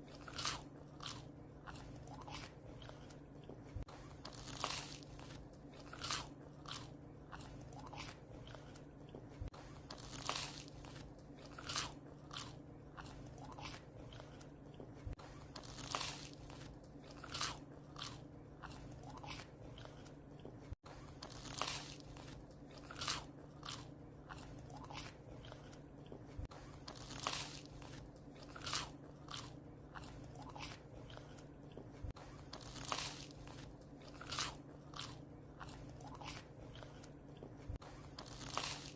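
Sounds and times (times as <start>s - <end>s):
puppy crunching bread: 0.0s - 38.9s
steady low hum: 0.0s - 38.9s.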